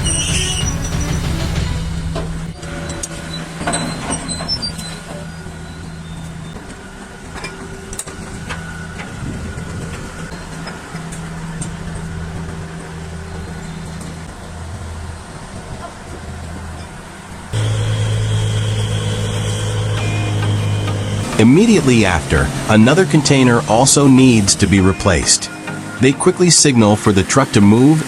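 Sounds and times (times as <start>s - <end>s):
diesel machinery engine running: 0.0s - 28.0s.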